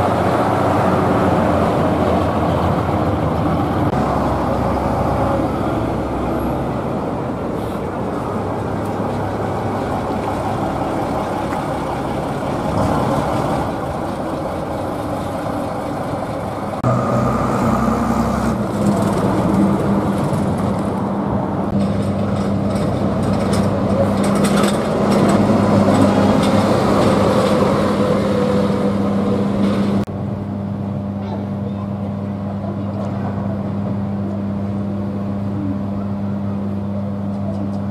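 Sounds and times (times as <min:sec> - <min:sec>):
bus diesel engines passing: 0:00.0 - 0:37.9
bus engine low hum: 0:00.0 - 0:37.9.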